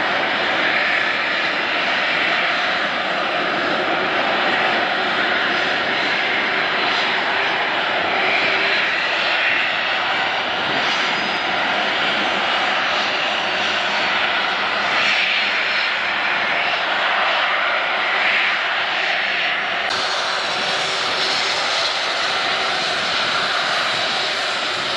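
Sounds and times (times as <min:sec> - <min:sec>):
jet engines at taxi power: 0:00.0 - 0:24.9.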